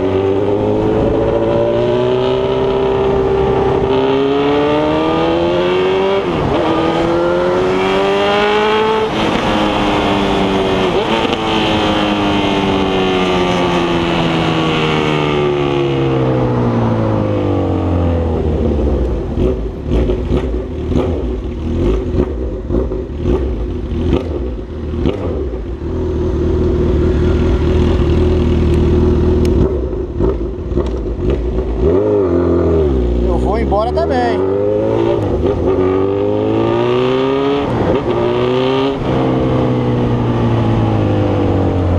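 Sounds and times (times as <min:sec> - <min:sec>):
motorcycle accelerating through gears: 0:00.0 - 0:41.9.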